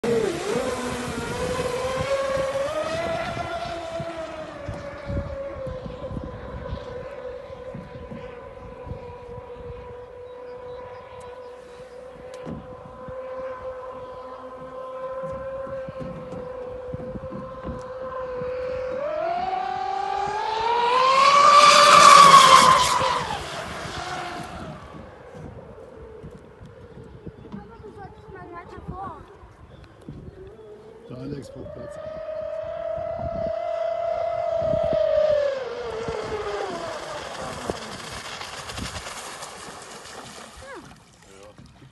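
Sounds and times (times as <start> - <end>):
electric motor high whine: 0.0 - 27.5, 29.8 - 38.8.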